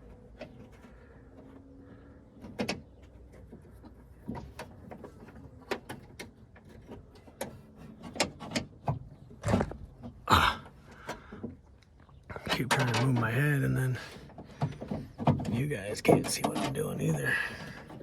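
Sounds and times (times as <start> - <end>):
metal clicks and clunks: 2.4 - 18.0.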